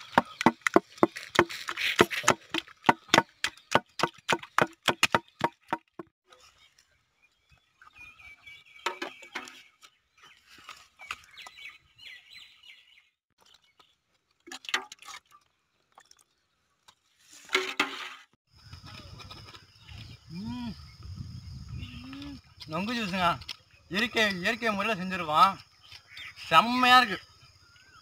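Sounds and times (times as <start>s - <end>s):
birds chirping: 0.0s - 14.1s, 18.5s - 28.0s.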